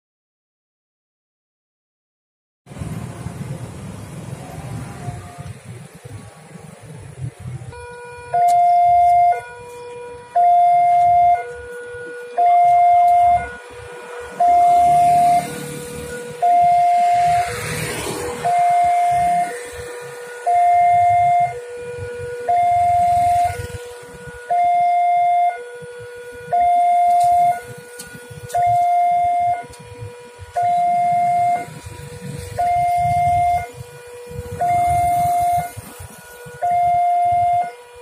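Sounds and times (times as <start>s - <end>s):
two-tone crossing alarm: 4.4s - 38.0s.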